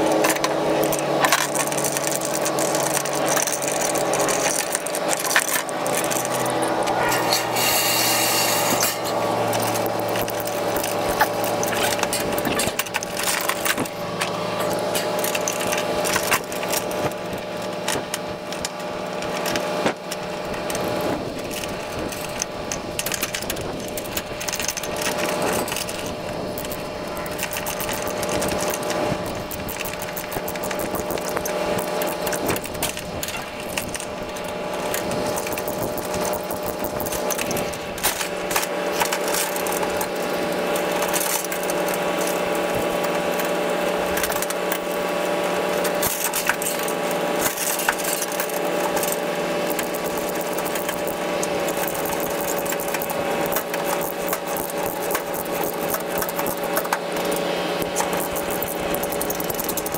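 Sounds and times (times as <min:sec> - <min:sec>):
machine hum with held tones: 0:00.0 - 0:59.9
rattling and clicking: 0:00.0 - 0:59.9.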